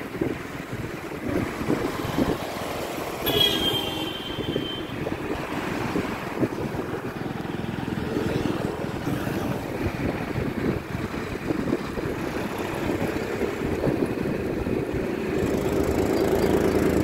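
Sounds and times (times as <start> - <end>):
wind buffeting microphone: 0.0 - 3.2, 4.4 - 16.1
motorbike engine and road noise: 0.0 - 17.0.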